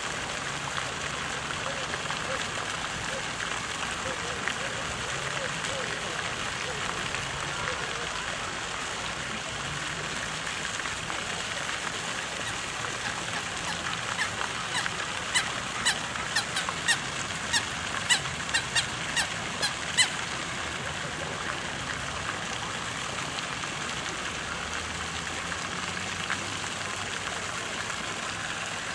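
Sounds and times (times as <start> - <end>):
rushing water: 0.0 - 28.9.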